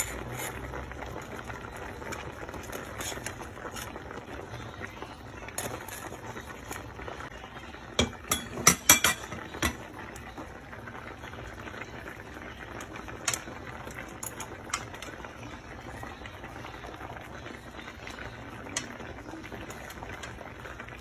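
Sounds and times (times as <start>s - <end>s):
stew bubbling in pot: 0.0s - 21.0s.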